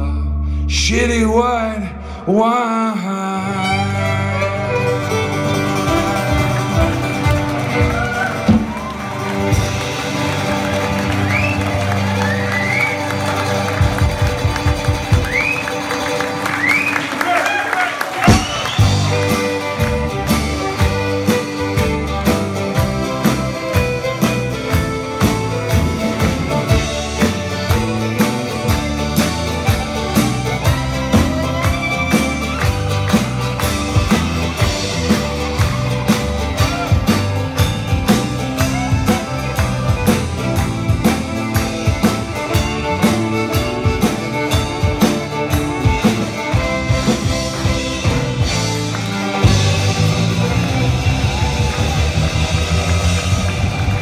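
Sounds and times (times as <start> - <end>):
acoustic guitars: 0.0 - 17.2, 18.2 - 54.0
fiddle: 3.2 - 54.0
accordion: 3.5 - 17.1, 18.3 - 54.0
banjo: 3.6 - 17.0, 18.3 - 54.0
drum kit: 4.7 - 54.0.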